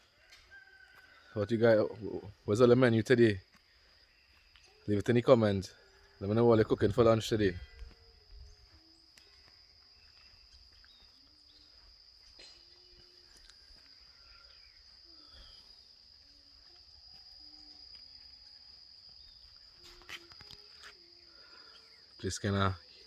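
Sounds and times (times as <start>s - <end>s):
high-pitched insect trill: 0.0s - 23.0s
quiet outdoor background noise: 0.0s - 23.0s.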